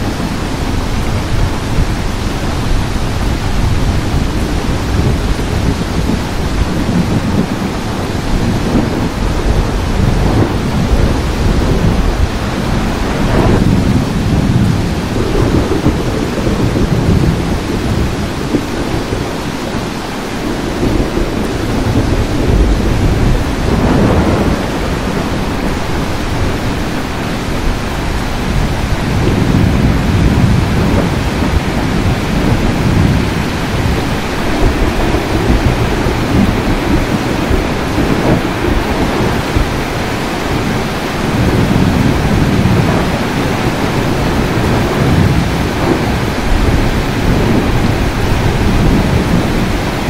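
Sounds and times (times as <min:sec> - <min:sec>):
heavy rain: 0:00.0 - 0:50.0
low thunder rumbling: 0:00.0 - 0:50.0.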